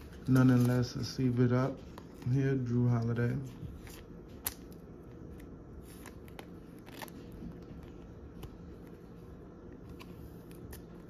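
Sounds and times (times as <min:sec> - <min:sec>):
plastic card sleeve crinkling: 0:00.0 - 0:11.0.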